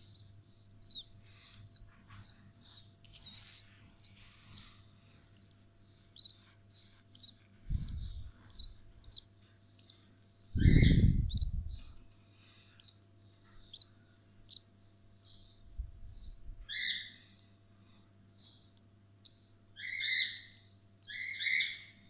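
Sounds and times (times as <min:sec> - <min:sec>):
bird chick chirping: 0:00.0 - 0:22.0.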